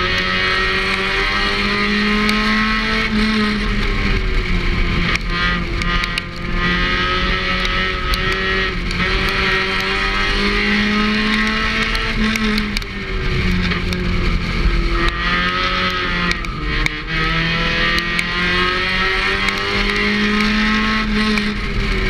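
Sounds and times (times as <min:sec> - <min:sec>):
race car engine: 0:00.0 - 0:22.0.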